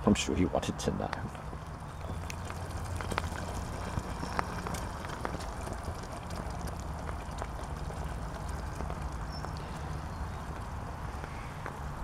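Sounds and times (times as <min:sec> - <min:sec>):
steady low rumble: 0:00.0 - 0:12.0
soup simmering with soft pops: 0:01.3 - 0:12.0.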